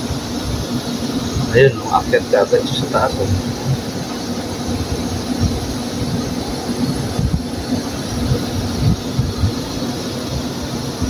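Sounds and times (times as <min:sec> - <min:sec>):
air conditioner humming: 0:00.0 - 0:11.0
low rumbles: 0:00.5 - 0:11.0.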